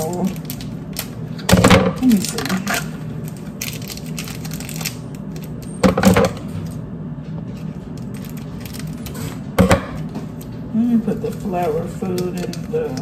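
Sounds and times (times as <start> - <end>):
plastic wrapping crinkling: 0.0 - 6.8, 7.4 - 13.0.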